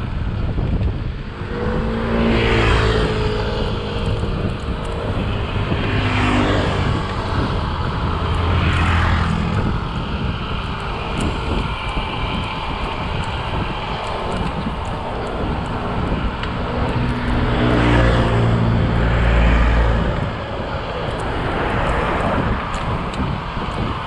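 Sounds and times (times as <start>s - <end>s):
motor vehicles passing: 0.0s - 24.0s
wind on microphone: 0.0s - 24.0s.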